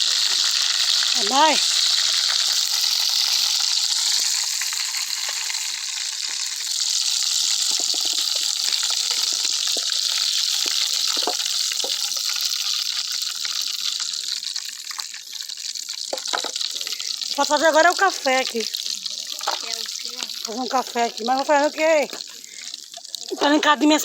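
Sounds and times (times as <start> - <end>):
fish frying in hot oil: 0.0 - 24.0.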